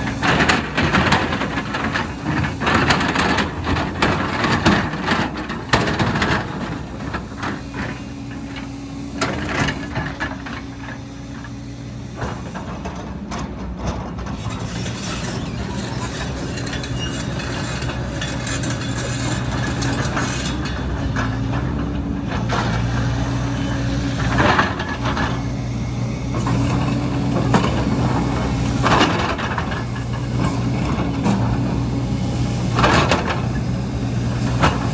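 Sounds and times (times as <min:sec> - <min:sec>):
heavy diesel engine running: 0:00.0 - 0:34.9.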